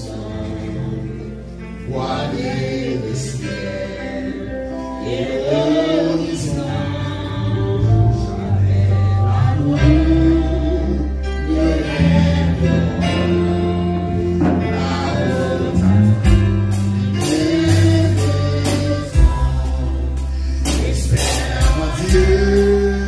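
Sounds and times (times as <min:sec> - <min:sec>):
choir singing a hymn: 0:00.0 - 0:23.0
instrumental backing with bass: 0:00.0 - 0:23.0.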